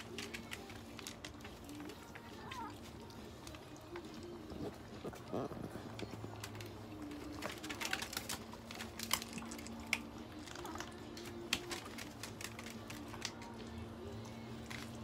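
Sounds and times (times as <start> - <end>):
dogs crunching dry kibble: 0.0 - 15.0.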